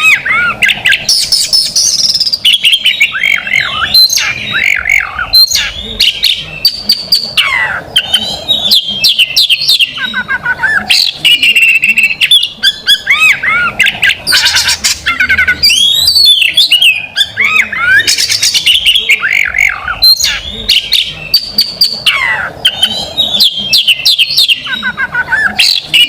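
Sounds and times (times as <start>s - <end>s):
songbird singing loudly: 0.0s - 26.0s.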